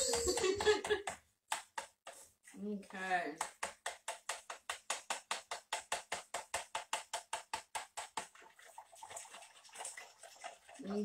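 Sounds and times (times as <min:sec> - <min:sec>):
soft stirring: 0:00.0 - 0:11.0
stirring strokes knocking plastic bowl: 0:00.0 - 0:11.0.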